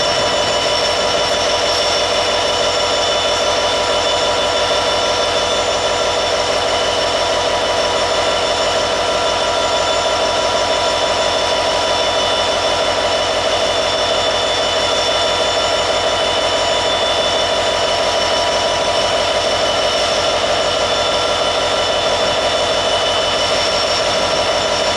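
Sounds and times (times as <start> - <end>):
high steady whine: 0.0 - 24.9
locomotive engine running: 0.0 - 24.9.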